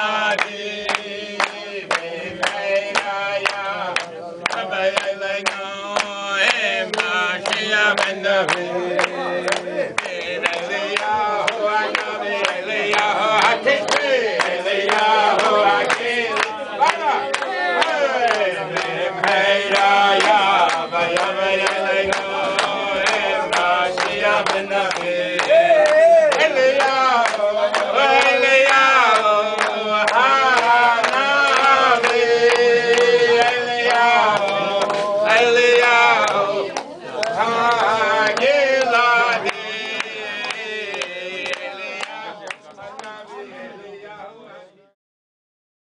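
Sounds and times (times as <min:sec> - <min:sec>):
group of people singing: 0:00.0 - 0:45.0
hands clapping in time: 0:00.1 - 0:43.4.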